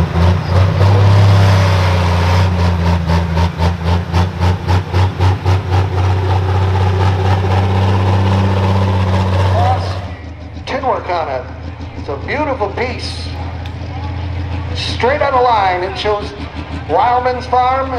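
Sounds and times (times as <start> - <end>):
tractor diesel engine droning: 0.0 - 17.9.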